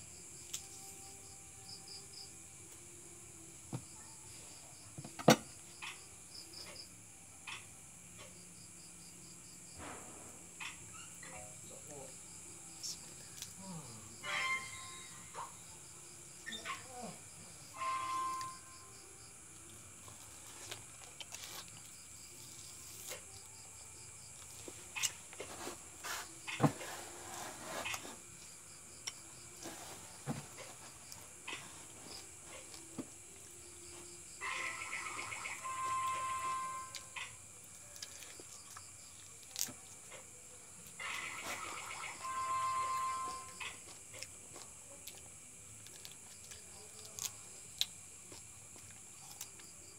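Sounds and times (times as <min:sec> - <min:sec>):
crickets chirping: 0:00.0 - 0:49.9
high insect drone: 0:00.0 - 0:49.9.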